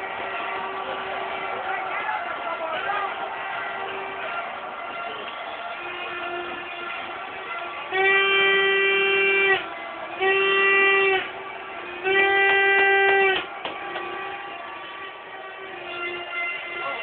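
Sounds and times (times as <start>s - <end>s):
horn blasts: 0.0s - 17.0s.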